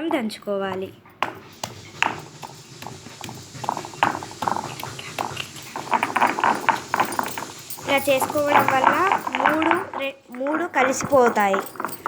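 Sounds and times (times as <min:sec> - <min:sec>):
pestle pounding in a mortar: 0:00.0 - 0:12.0.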